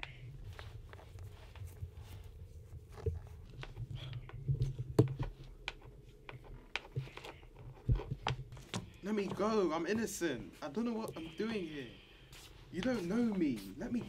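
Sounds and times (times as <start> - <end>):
low steady hum: 0.0 - 14.0
rustling: 0.0 - 14.0.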